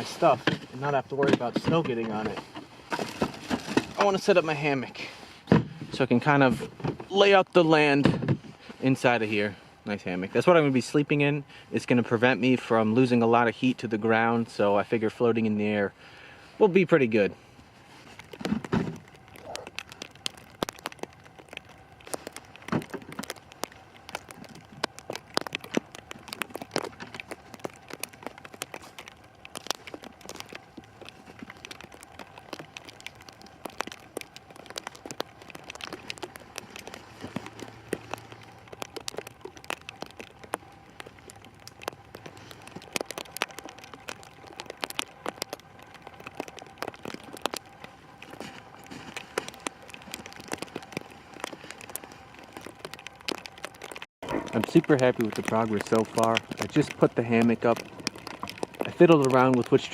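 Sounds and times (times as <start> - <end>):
plastic wrap crackling: 0.0 - 9.4, 16.6 - 59.9
faint steady hum: 0.0 - 59.9.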